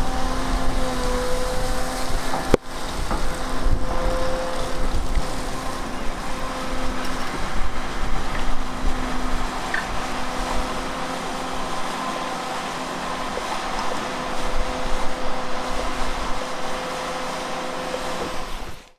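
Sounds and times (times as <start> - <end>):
constant pitched whine: 0.0 - 18.9
excavator diesel and hydraulic drone: 0.0 - 18.9.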